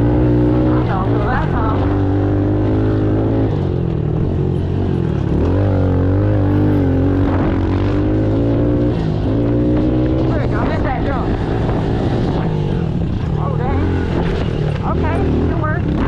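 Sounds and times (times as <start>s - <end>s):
pit bike engine revving: 0.0s - 16.0s.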